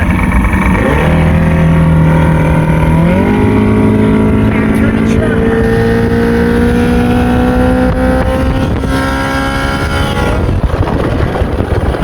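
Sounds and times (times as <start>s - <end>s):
outboard motor running: 0.0s - 12.0s
rough rushing noise: 0.0s - 12.0s.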